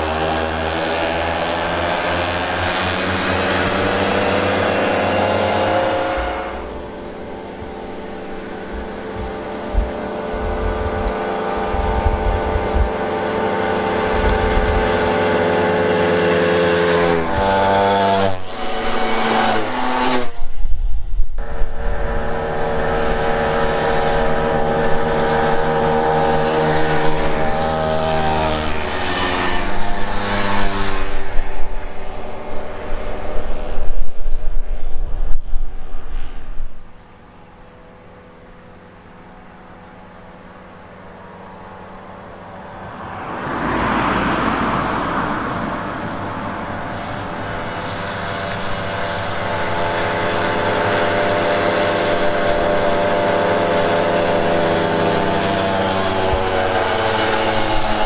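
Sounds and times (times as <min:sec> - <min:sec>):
mopeds buzzing past: 0:00.0 - 0:20.8, 0:21.4 - 0:58.0.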